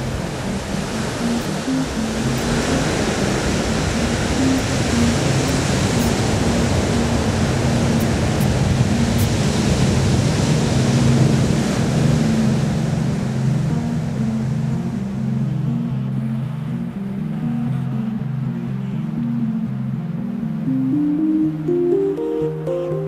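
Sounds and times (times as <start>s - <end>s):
background music: 0.0s - 23.0s
ocean surf breaking: 0.0s - 23.0s.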